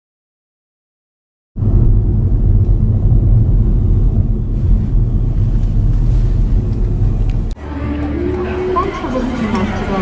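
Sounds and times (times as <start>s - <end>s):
car cabin road rumble: 1.6s - 10.0s.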